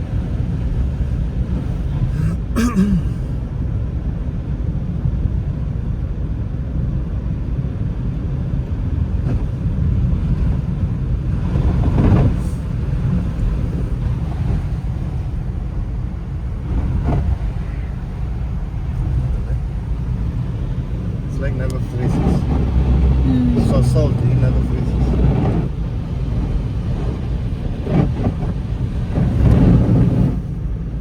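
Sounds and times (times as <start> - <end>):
car driving rumble: 0.0 - 31.0.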